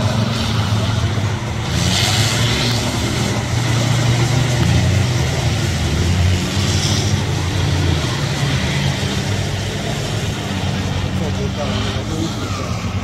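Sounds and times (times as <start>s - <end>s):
off-road vehicle engines running: 0.0s - 13.0s.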